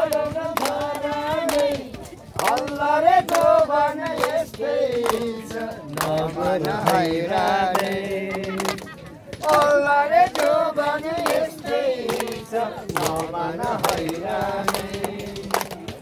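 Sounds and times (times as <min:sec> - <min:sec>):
people clapping: 0:00.0 - 0:16.0.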